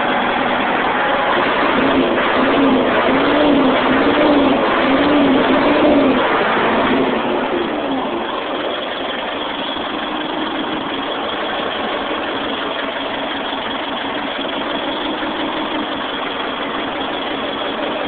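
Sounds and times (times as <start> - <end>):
bulldozer diesel engine idling: 0.0 - 18.0.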